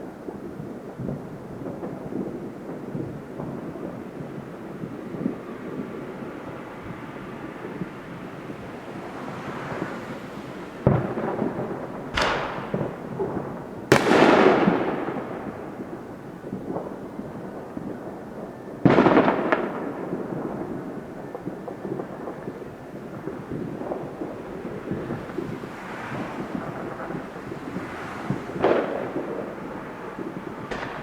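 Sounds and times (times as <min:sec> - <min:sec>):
distant fireworks rumble: 0:00.0 - 0:31.0
fireworks booming: 0:00.0 - 0:31.0.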